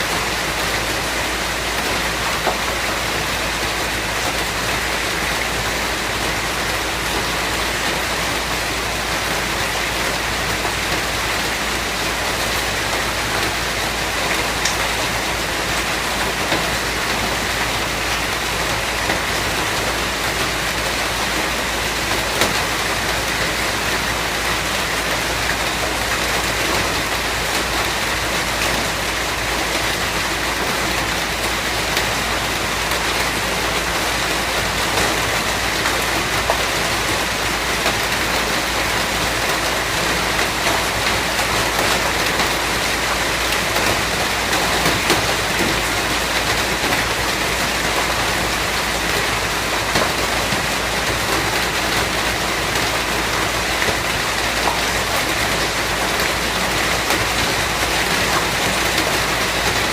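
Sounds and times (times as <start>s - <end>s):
rain falling: 0.0s - 59.9s
raindrops pattering: 0.0s - 59.9s.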